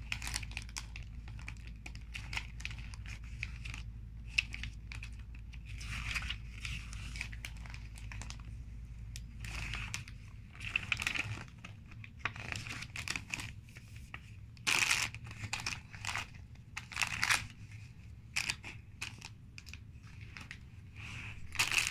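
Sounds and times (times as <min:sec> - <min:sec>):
plastic bags crinkling: 0:00.0 - 0:21.9.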